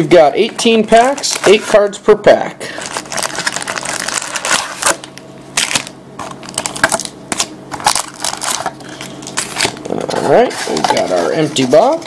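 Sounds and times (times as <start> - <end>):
card packs crinkling: 0.0 - 1.9, 2.6 - 12.0.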